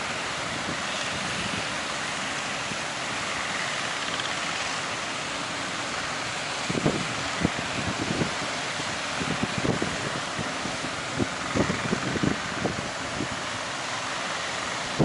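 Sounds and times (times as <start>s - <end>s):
waves breaking: 0.0s - 15.0s.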